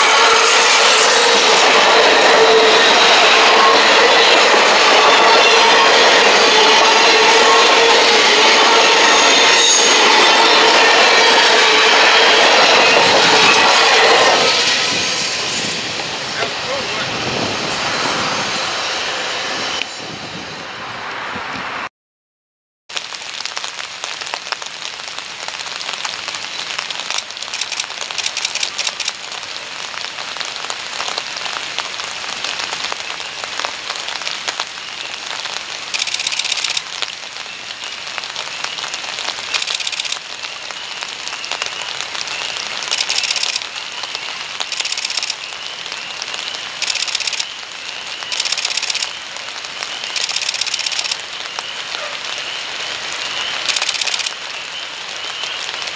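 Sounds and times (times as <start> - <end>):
rain hissing: 0.0 - 19.6, 22.9 - 55.9.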